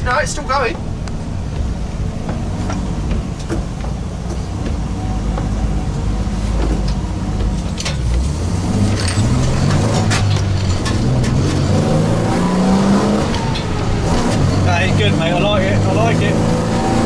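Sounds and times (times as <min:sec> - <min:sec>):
van engine accelerating: 0:00.0 - 0:17.0.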